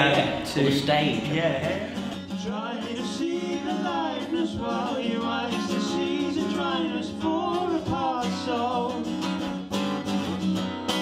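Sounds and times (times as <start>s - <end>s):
man singing: 0.0s - 9.5s
strummed acoustic guitar: 0.0s - 11.0s.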